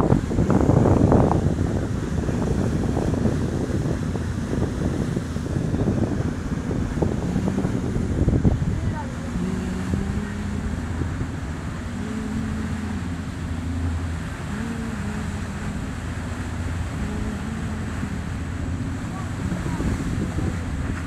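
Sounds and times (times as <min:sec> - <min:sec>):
motor boat engines running: 0:00.0 - 0:21.0
rush of boat wake: 0:00.0 - 0:21.0
wind on microphone: 0:00.0 - 0:21.0.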